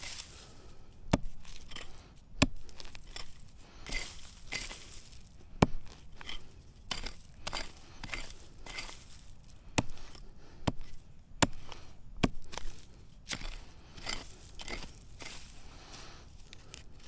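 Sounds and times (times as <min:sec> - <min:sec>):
digging tool striking ground: 0:00.0 - 0:17.0.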